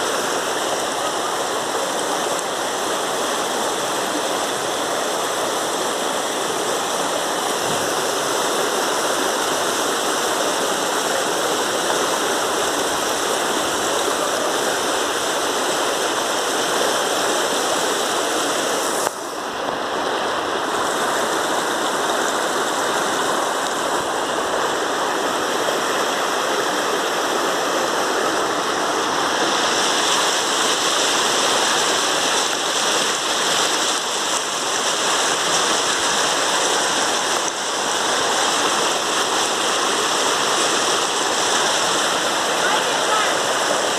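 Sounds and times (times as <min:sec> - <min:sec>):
rain falling: 0:00.0 - 0:43.9
water rushing: 0:00.0 - 0:43.9.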